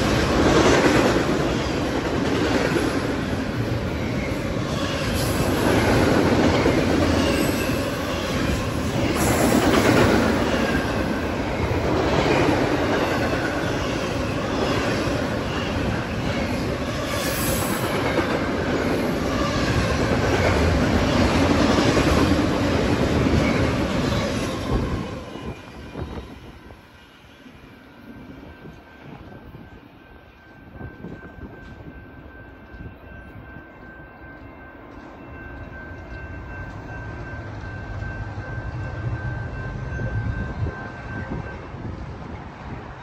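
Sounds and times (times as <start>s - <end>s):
freight train rumbling: 0.0s - 43.0s.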